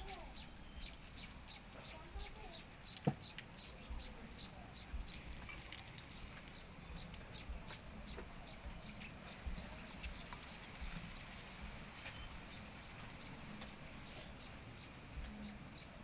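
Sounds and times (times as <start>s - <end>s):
bird chirps: 0.0s - 16.0s.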